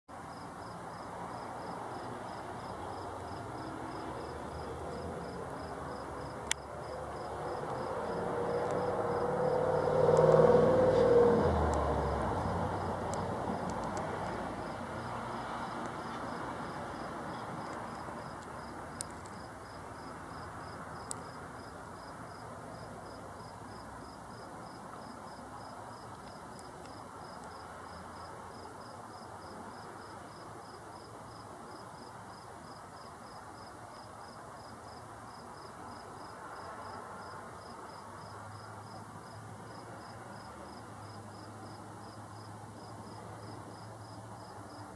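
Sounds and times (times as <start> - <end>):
cricket chirping: 0.1 - 44.9.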